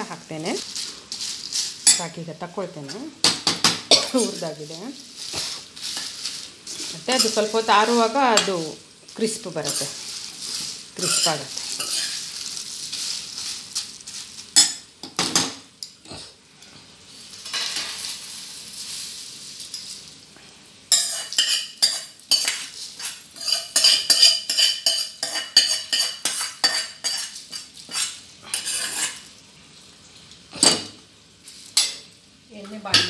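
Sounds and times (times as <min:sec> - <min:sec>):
spoon stirring in hot pan: 0:00.0 - 0:20.1, 0:20.9 - 0:29.4, 0:30.6 - 0:33.0
sizzling: 0:00.0 - 0:33.0.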